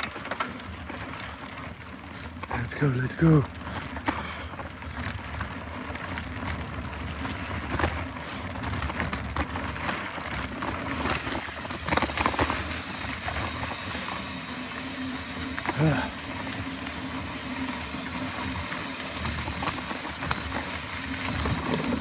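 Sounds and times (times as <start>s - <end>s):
bike rattling over bumps: 0.0s - 22.0s
bike tyre and drivetrain noise: 0.0s - 22.0s.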